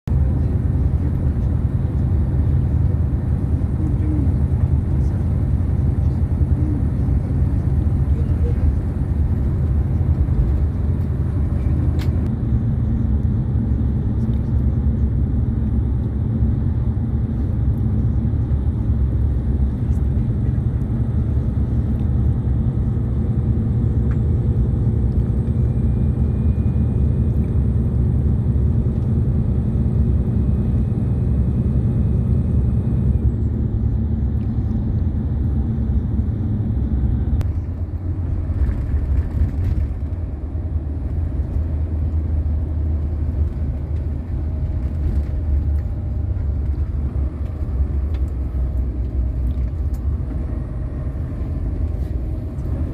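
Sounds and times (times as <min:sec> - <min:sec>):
bus engine and road rumble: 0:00.0 - 0:52.9.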